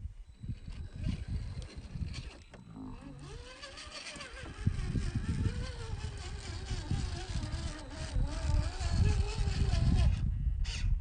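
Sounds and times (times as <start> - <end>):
toy car electric motor whining: 0.4 - 10.8.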